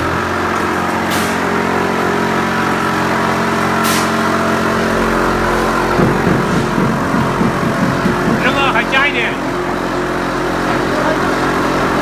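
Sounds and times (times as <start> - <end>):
plastering machine motor running: 0.0 - 12.0.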